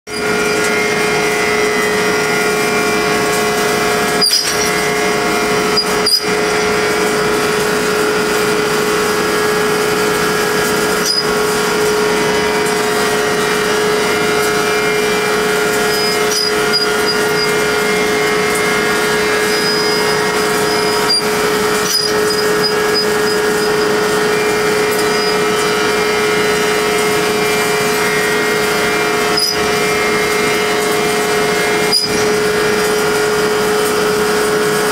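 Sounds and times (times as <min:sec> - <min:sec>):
machine whine: 0:00.1 - 0:34.9
metal-cutting machine humming: 0:00.1 - 0:34.9.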